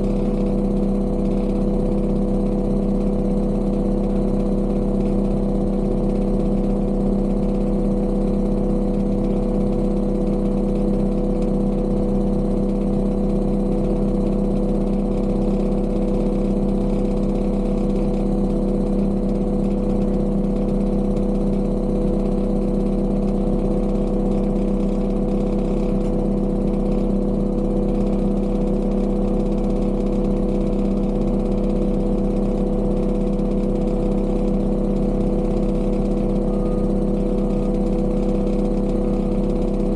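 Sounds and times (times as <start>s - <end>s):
construction machinery engine droning: 0.0s - 39.9s.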